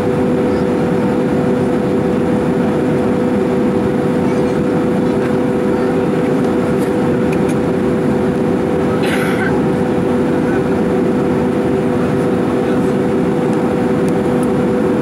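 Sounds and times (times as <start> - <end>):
airplane cabin engine rush: 0.0 - 15.0
constant droning hum: 0.0 - 15.0.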